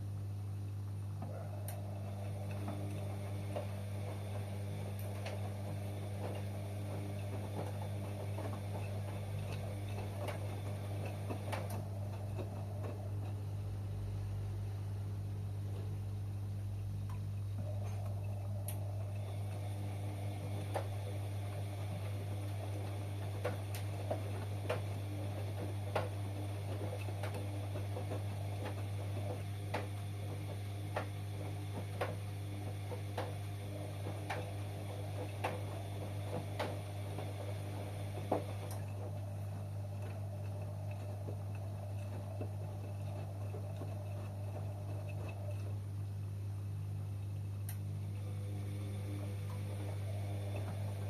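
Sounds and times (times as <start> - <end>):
washing machine hum: 0.0 - 51.0.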